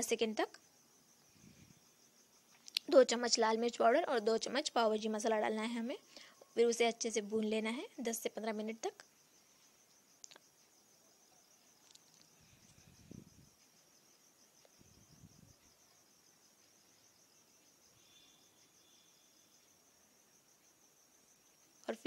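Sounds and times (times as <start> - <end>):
cricket trill: 0.0 - 22.0.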